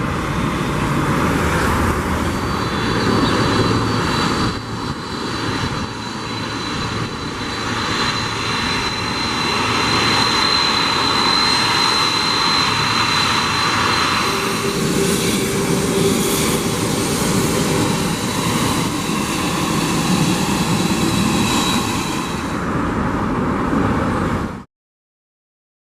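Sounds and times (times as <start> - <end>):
high engine whine: 0.0 - 24.7
jet engines running: 0.0 - 24.7.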